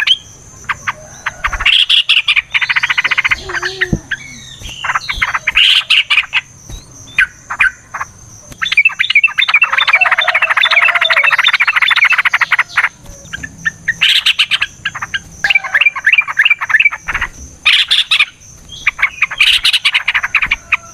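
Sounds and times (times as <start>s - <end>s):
birds chattering song: 0.0s - 20.9s.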